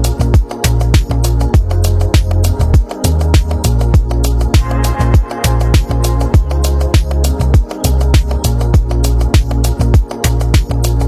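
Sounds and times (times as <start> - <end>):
electronic music: 0.0 - 11.0
deep kick drums: 0.4 - 10.8.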